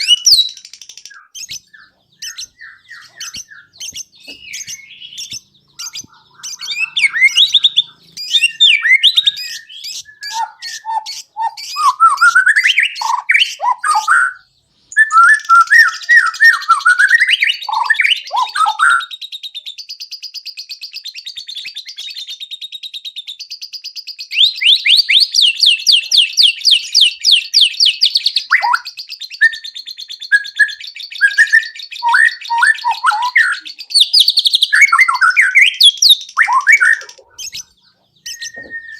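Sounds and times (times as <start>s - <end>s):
songbird singing whistles and trills: 0.0s - 38.9s.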